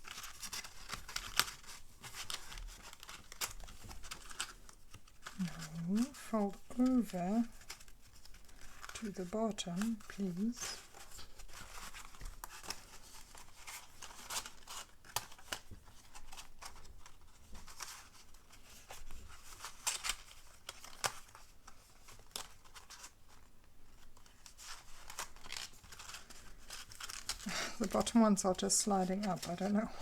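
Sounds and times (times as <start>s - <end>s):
paper rustling and folding: 0.0s - 30.0s.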